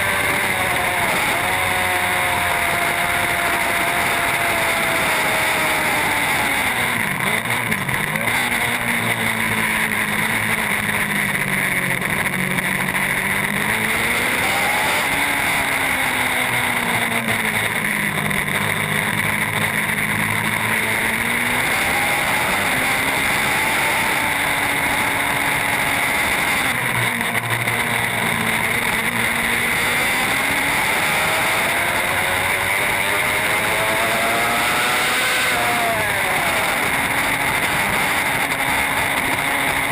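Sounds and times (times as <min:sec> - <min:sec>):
superbike engine revving: 0:00.0 - 0:39.9.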